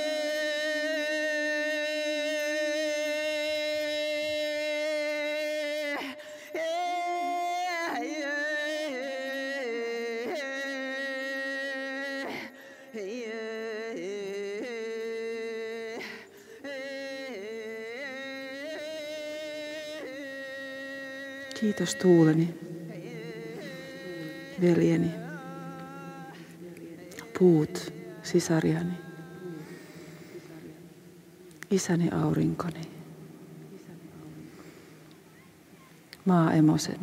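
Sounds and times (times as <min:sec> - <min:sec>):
woman singing unaccompanied: 0:00.0 - 0:33.0, 0:33.7 - 0:37.0.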